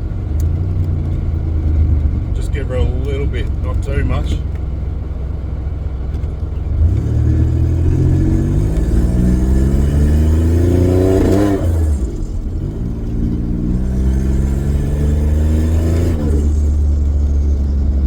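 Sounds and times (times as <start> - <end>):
turbocharged car accelerating: 0.0 - 18.0.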